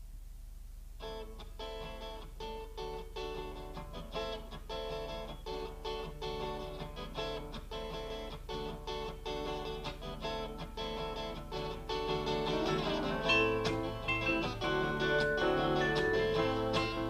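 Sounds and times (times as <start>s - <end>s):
constant low hum: 0.0s - 17.0s
acoustic guitar strumming: 1.0s - 17.0s.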